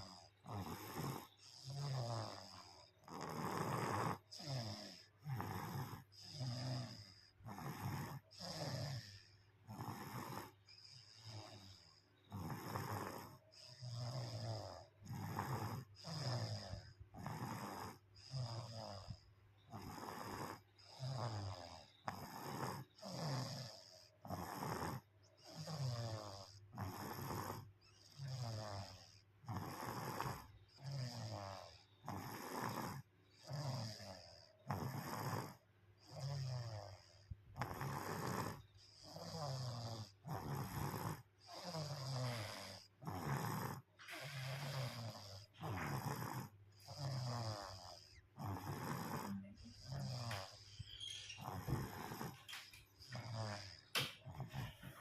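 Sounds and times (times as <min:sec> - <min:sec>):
baby snoring: 0:00.0 - 0:55.0.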